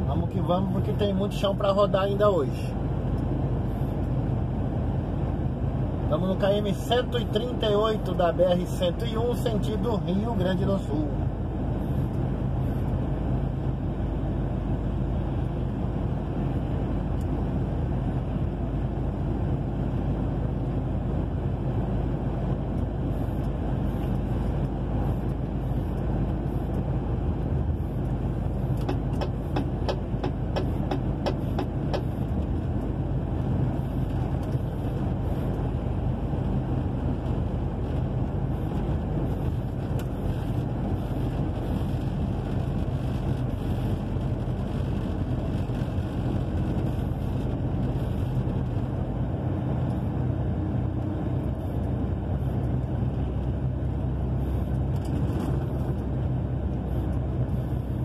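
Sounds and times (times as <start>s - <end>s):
road noise on wet highway: 0.0s - 58.0s
truck engine droning: 0.0s - 58.0s.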